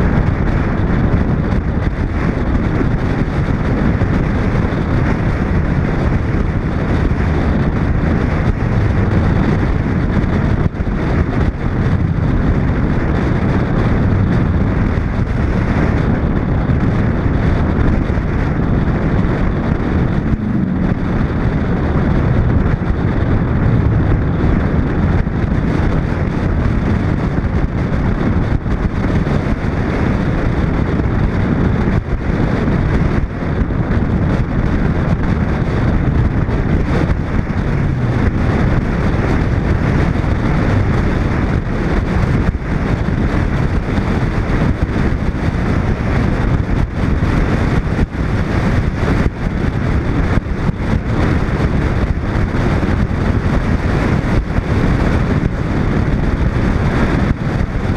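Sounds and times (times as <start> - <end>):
car running and road noise: 0.0 - 57.9
wind buffeting camera: 0.0 - 57.9.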